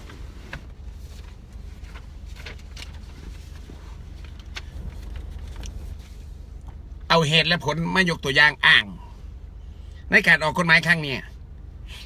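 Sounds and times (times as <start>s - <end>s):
light traffic: 0.0s - 12.0s.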